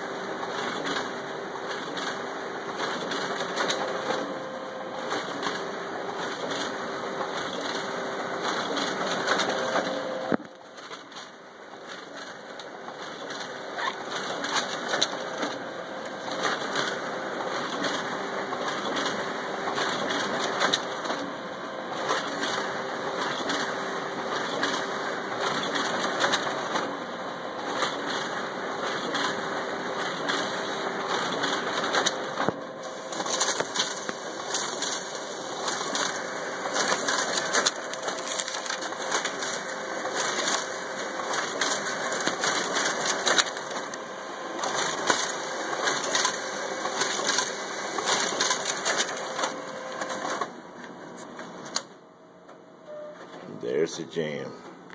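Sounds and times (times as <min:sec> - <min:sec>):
copier mechanical whir: 0:00.0 - 0:54.9
paper handling clicking and clatter: 0:00.4 - 0:04.3, 0:05.0 - 0:21.3, 0:22.0 - 0:26.9, 0:27.6 - 0:51.9.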